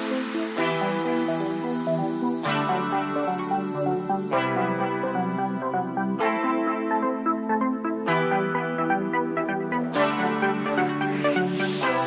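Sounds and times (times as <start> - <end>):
background music with held chords: 0.0 - 12.0.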